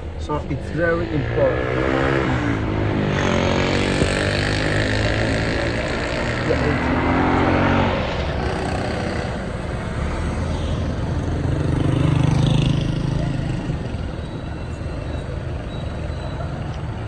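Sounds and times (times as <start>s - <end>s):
road and engine noise: 0.0s - 17.0s.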